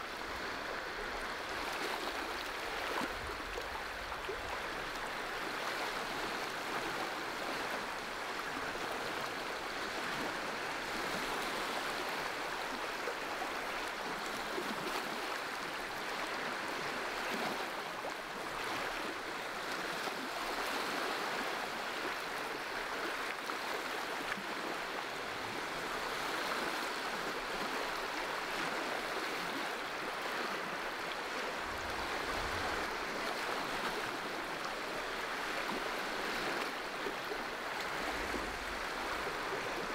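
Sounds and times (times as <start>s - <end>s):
water waves washing on shore: 0.0s - 39.9s.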